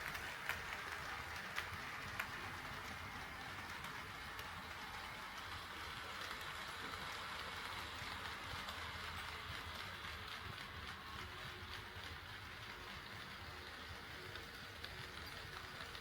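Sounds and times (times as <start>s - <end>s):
model train rolling: 0.0s - 16.0s.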